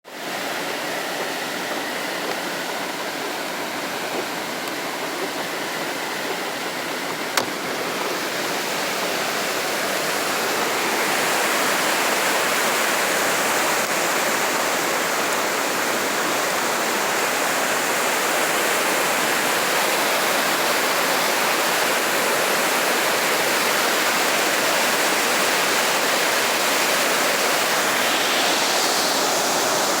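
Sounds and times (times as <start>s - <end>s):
heavy rain with rushing water: 0.1s - 30.0s.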